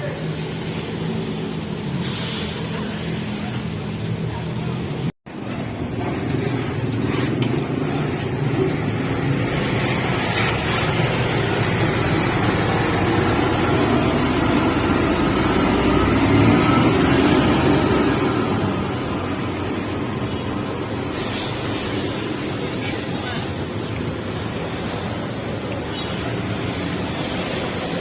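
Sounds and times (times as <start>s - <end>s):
diesel bus engine rumbling: 0.0s - 28.0s.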